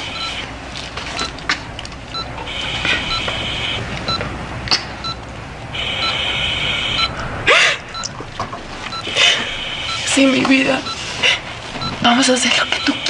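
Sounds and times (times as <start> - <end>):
patient monitor beeping: 0.0 - 1.5, 2.1 - 4.3, 5.0 - 13.0.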